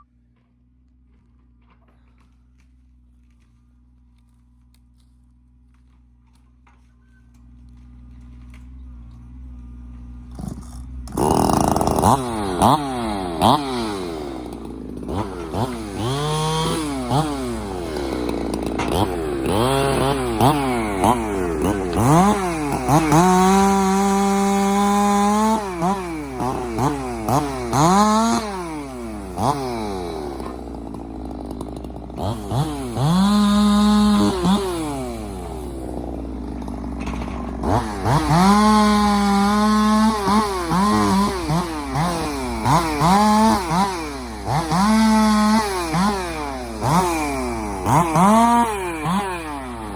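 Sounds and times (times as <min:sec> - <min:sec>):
chainsaw revving: 0:09.6 - 0:49.9.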